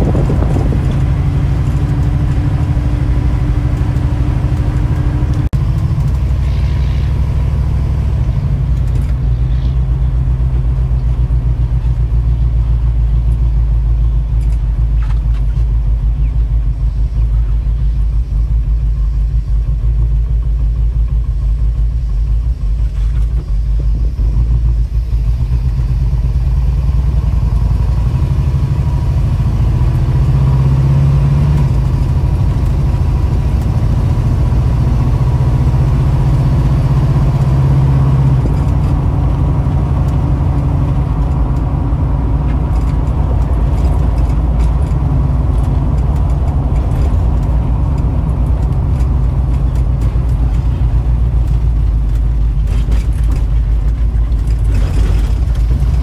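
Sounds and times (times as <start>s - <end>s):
car engine rumble from inside: 0.0s - 56.0s.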